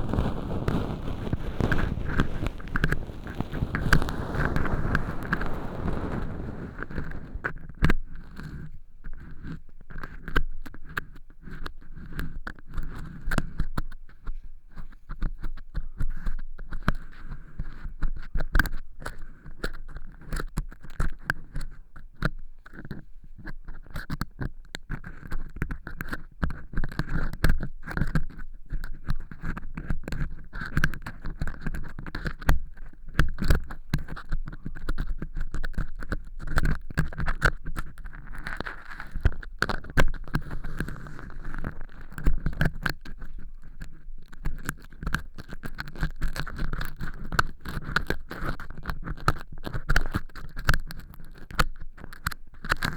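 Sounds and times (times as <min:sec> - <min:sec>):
ear pick scraping crunchy clicks: 0:00.0 - 0:52.9.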